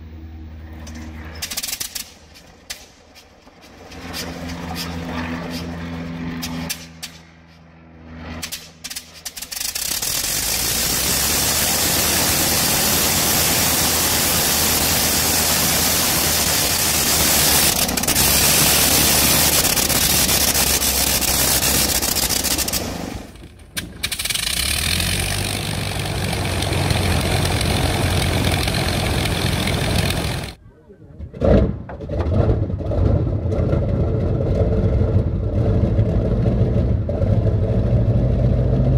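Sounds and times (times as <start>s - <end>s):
rotary aero engine running: 0.0s - 30.6s, 31.4s - 38.9s
deeper aircraft engine running: 0.0s - 31.1s, 32.3s - 38.9s.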